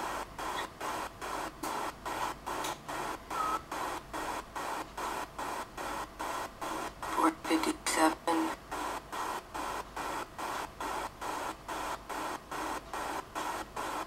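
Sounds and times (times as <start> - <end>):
rhythmic pulsing hiss: 0.0 - 14.0.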